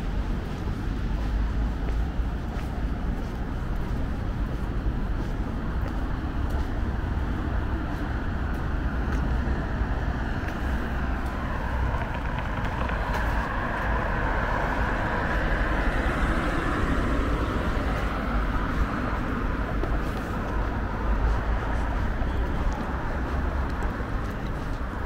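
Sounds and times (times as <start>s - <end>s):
car passing: 0.0s - 25.0s
steady low traffic rumble: 0.0s - 25.0s.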